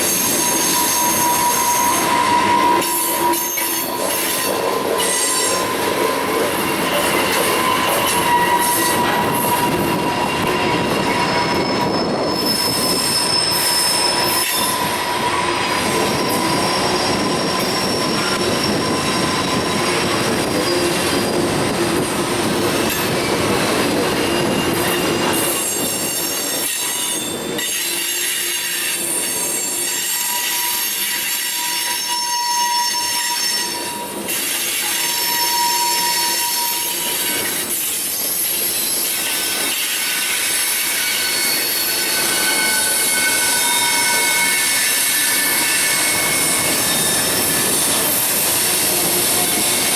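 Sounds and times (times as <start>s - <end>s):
train rumble: 0.0s - 32.4s, 33.0s - 49.9s
train wheels squealing: 0.0s - 49.9s.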